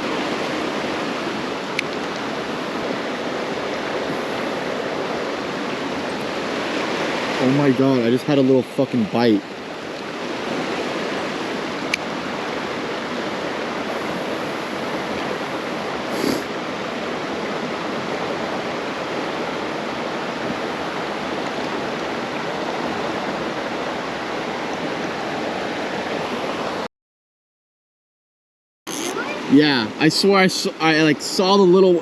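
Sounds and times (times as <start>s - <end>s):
creek water rushing: 0.0s - 26.9s.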